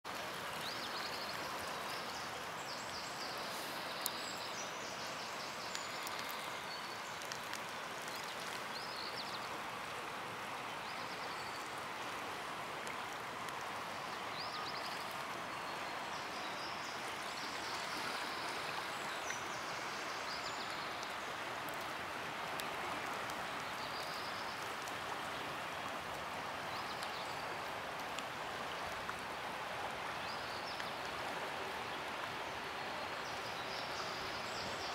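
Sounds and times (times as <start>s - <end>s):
river rushing: 0.1s - 34.9s.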